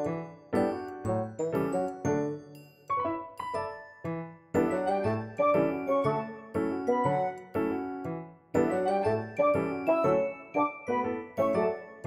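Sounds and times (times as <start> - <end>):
piano-like keyboard music: 0.0 - 12.0.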